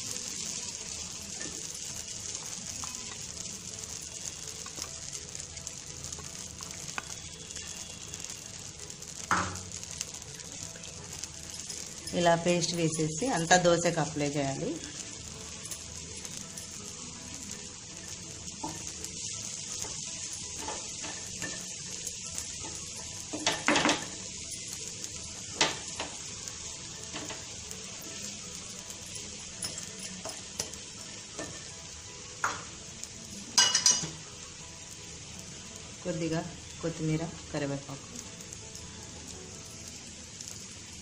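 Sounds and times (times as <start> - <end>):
food sizzling on a hot pan: 0.0 - 41.0.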